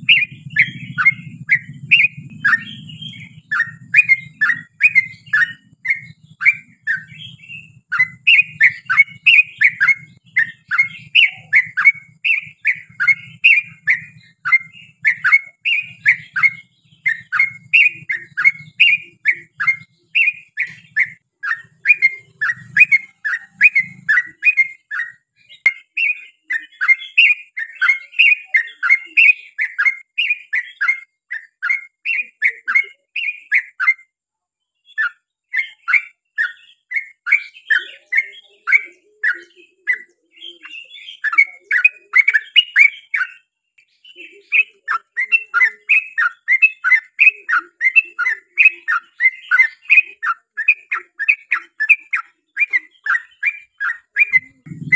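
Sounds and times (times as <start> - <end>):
bird chattering song: 0.0 - 34.1, 34.7 - 54.9.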